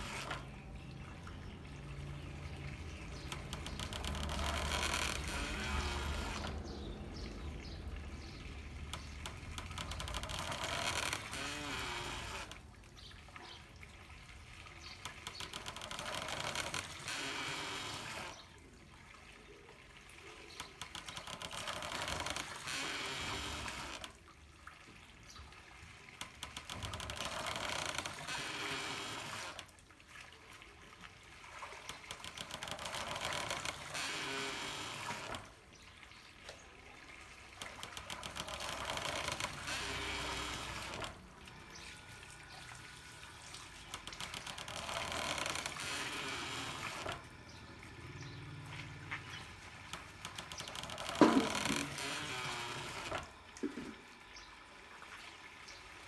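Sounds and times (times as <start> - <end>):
water pouring and trickling: 0.0 - 56.0.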